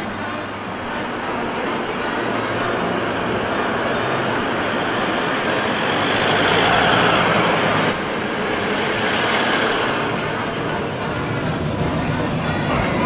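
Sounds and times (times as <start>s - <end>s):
tram passing rumble: 0.0s - 13.0s.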